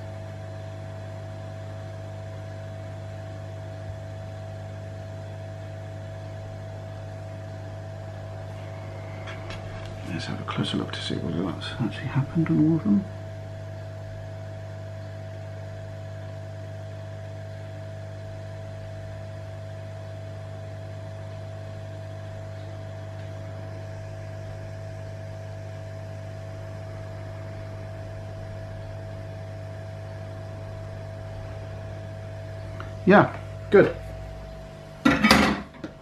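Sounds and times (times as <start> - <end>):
hot-air rework station blowing: 1.0 - 14.7, 20.6 - 36.0.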